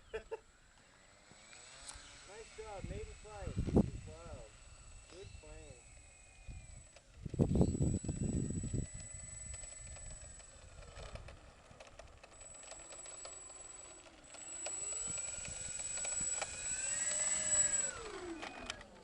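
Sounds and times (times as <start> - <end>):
model plane motors whining: 0.0 - 19.0.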